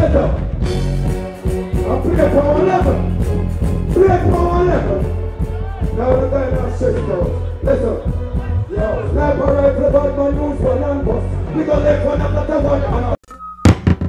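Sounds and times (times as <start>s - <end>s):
reggae riddim with heavy bass: 0.0s - 14.0s.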